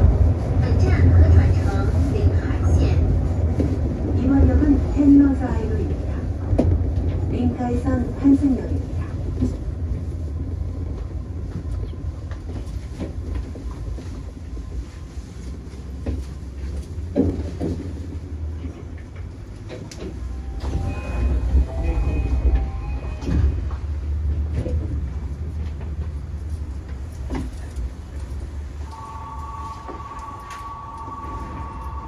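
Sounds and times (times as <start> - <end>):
monorail train rumbling: 0.0 - 32.0.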